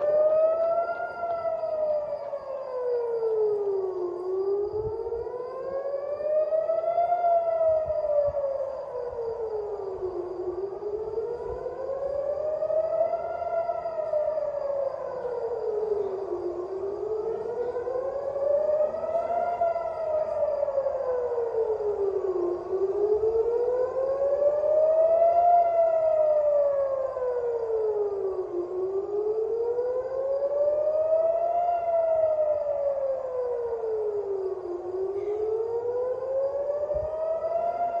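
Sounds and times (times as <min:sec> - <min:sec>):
air-raid siren wailing: 0:00.0 - 0:38.0.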